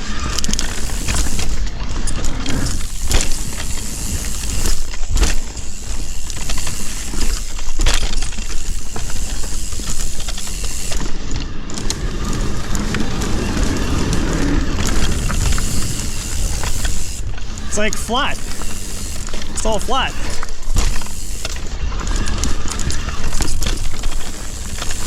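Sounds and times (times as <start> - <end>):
bike rattling with sharp knocks: 0.0 - 17.8, 18.4 - 19.6, 20.2 - 25.0
bike tyres on gravel: 0.0 - 25.0.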